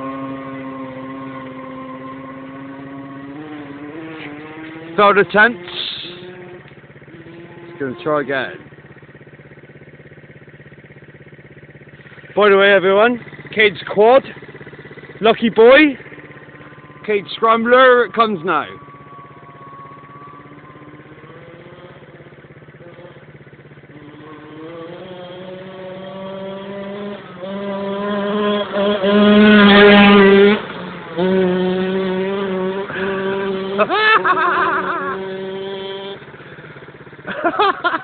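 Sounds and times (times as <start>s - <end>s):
dirt bike engine approaching: 0.0s - 38.0s
dirt bike sharp rev: 0.0s - 38.0s.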